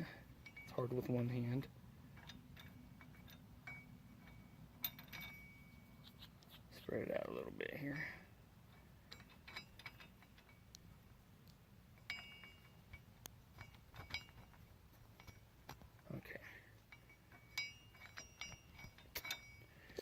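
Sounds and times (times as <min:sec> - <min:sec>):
light metallic clinks and taps: 0:00.0 - 0:06.8, 0:07.8 - 0:20.0.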